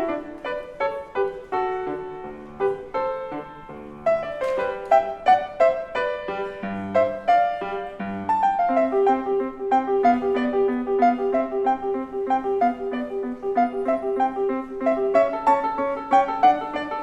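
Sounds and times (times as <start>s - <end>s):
classical piano piece: 0.0s - 17.0s.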